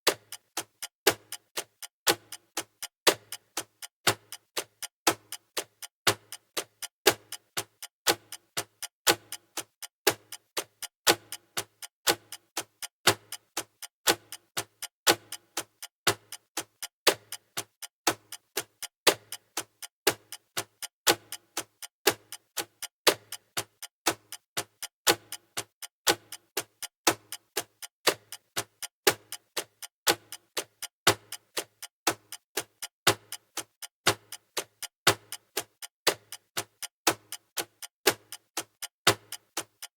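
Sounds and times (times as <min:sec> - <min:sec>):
timer ticking: 0:00.1 - 0:39.9.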